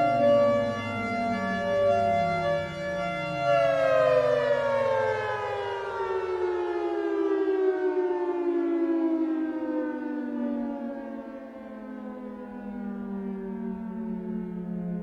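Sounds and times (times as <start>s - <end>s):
warning siren winding down: 0.0s - 15.0s.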